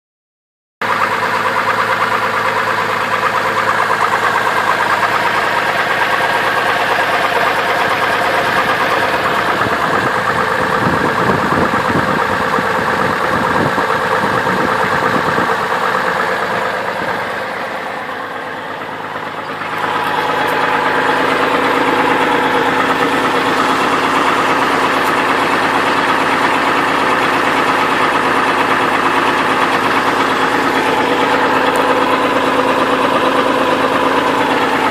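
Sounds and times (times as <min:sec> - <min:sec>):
car engine idling with knock: 0:00.8 - 0:34.9.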